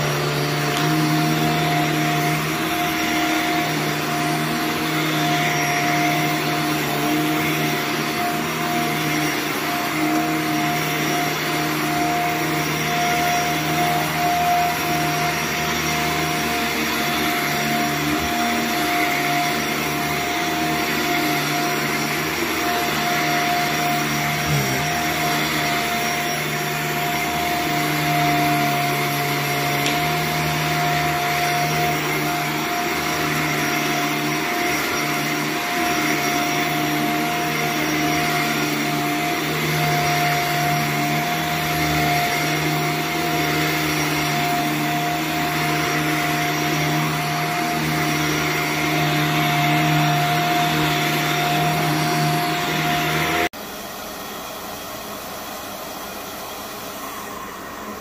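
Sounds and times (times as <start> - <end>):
vacuum motor humming and whining: 0.0 - 58.0.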